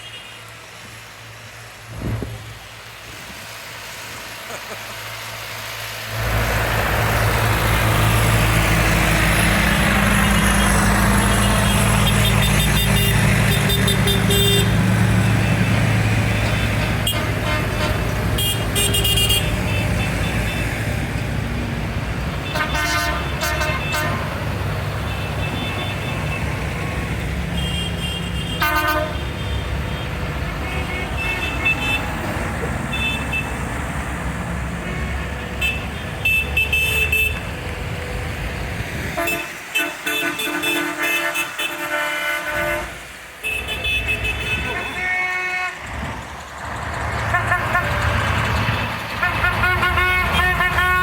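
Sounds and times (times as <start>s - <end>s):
tractor engines running: 0.0s - 51.0s.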